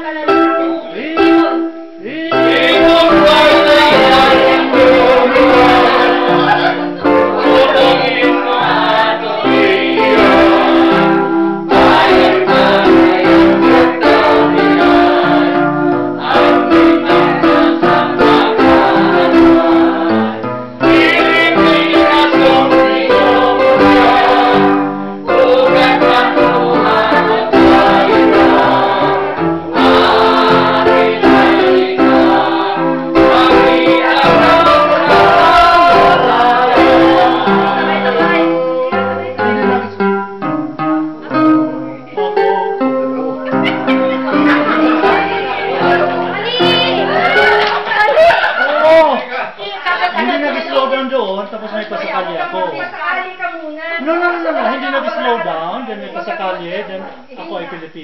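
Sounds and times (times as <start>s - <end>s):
choir singing: 0.0s - 40.0s, 41.2s - 48.6s.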